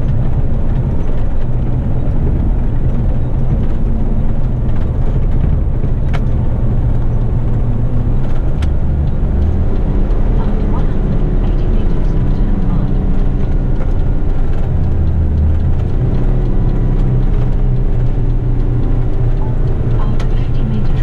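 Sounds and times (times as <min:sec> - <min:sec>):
diesel truck engine drone: 0:00.0 - 0:21.0
road noise: 0:00.0 - 0:21.0.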